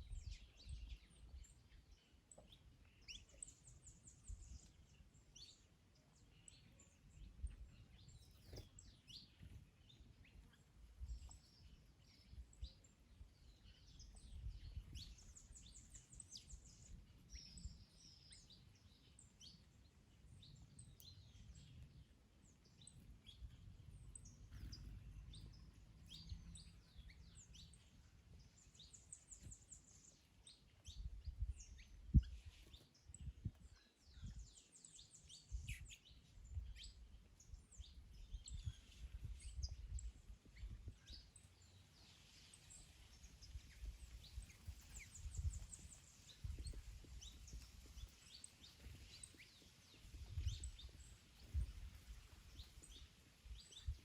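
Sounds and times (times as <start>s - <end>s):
wind rumbling on microphone: 0.0s - 2.1s, 3.0s - 5.5s, 6.5s - 19.5s, 22.7s - 54.0s
faint songbirds chirping: 0.0s - 54.0s.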